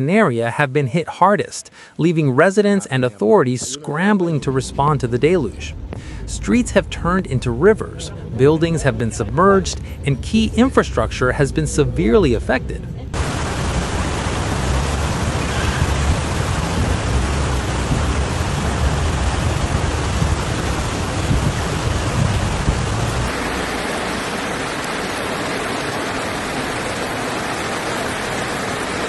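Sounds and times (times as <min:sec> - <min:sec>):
torrential rain and floodwater rushing: 0:03.6 - 0:29.0.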